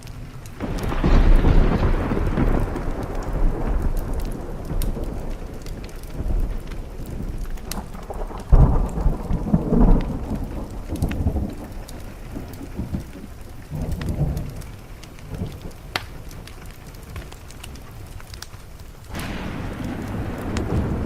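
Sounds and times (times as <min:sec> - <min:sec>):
steady rain: 0:00.0 - 0:21.0
wood fire crackling: 0:00.0 - 0:21.0
rolling thunder: 0:00.6 - 0:17.7, 0:19.1 - 0:21.0.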